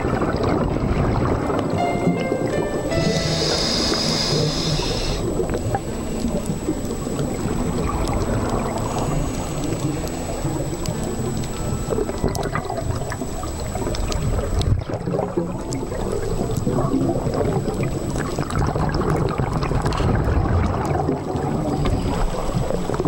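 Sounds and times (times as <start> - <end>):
underwater low rumble: 0.0 - 23.0.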